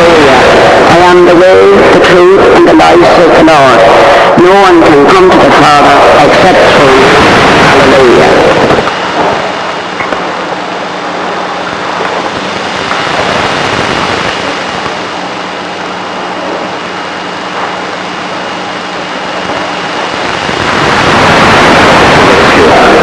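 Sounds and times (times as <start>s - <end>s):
faint hum: 0.0s - 23.0s
radio static hiss: 0.0s - 23.0s
thin high whine: 0.0s - 23.0s.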